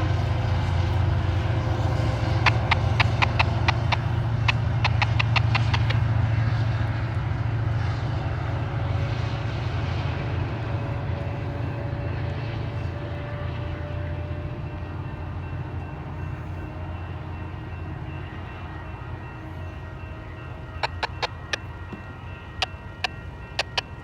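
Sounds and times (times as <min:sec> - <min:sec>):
diesel locomotive rumbling: 0:00.0 - 0:24.0.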